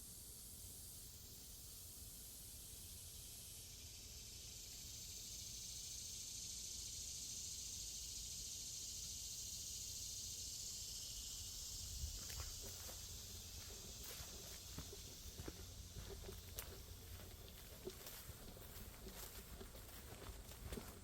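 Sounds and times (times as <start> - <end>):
high-pitched insect drone: 0.7 - 21.0.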